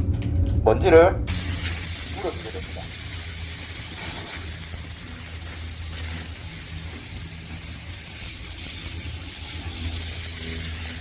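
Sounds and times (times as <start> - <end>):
air dust gun hissing: 1.3 - 11.0.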